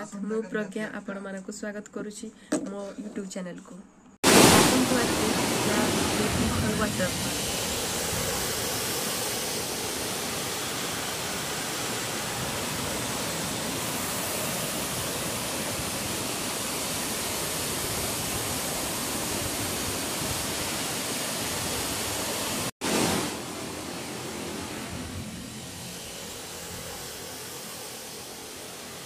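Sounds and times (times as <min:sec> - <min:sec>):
waterfall rushing: 0:04.2 - 0:29.0.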